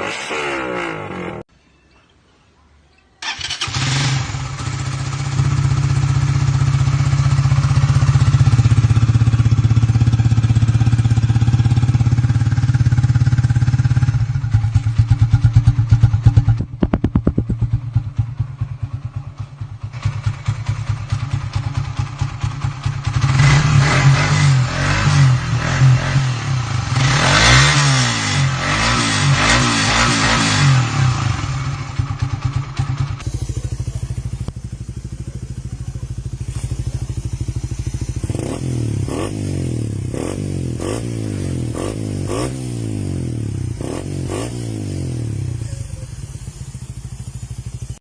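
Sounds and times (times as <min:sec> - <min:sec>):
motorcycle engine revving: 0:00.0 - 0:01.5, 0:03.2 - 0:48.0.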